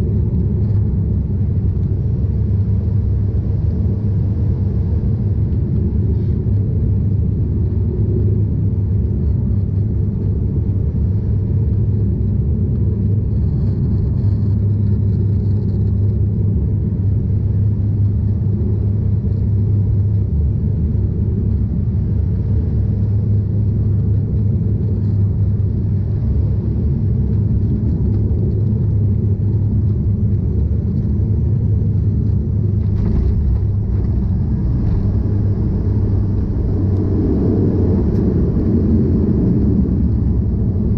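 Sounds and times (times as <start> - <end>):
turboprop cabin drone: 0.0 - 40.9.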